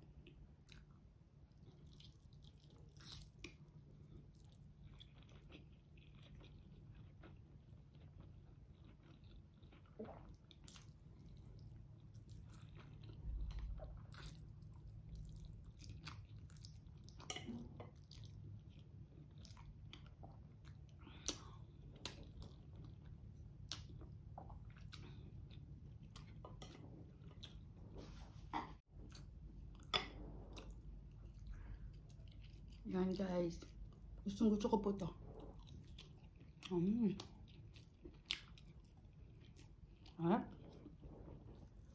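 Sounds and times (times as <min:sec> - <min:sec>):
person chewing wetly: 0:00.0 - 0:32.9, 0:35.2 - 0:41.9.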